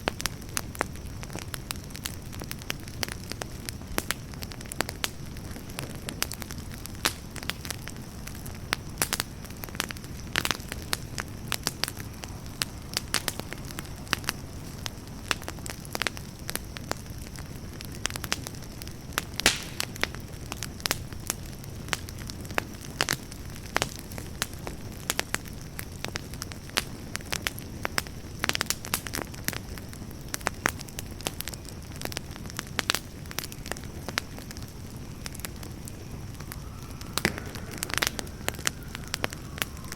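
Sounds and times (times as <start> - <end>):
crackles and pops of burning wood: 0.0 - 39.9
low rush of flames: 0.0 - 39.9.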